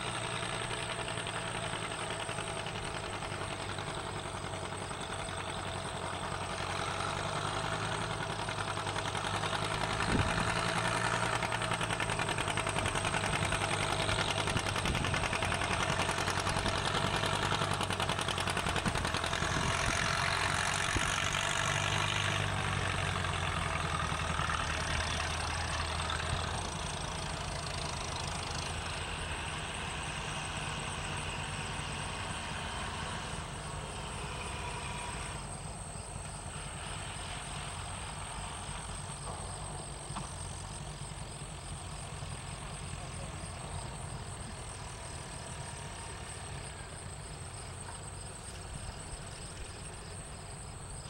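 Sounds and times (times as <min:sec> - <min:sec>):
tractor engines driving past: 0:00.0 - 0:51.0.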